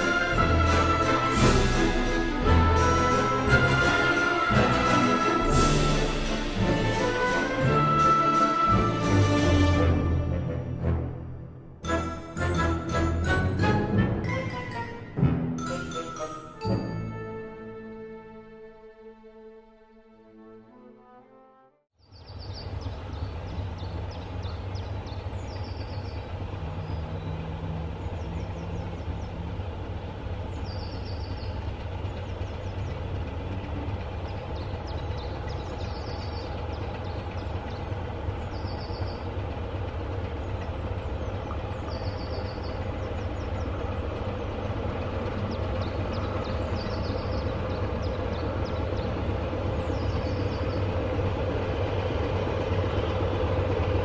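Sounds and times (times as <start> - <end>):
train rumbling: 0.0 - 19.1, 22.1 - 54.0.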